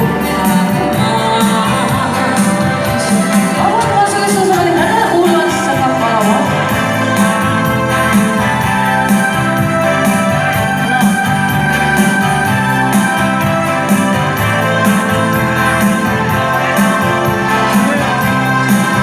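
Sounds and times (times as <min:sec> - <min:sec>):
organ-like keyboard: 0:00.0 - 0:19.0
steady bass beat: 0:00.0 - 0:19.0.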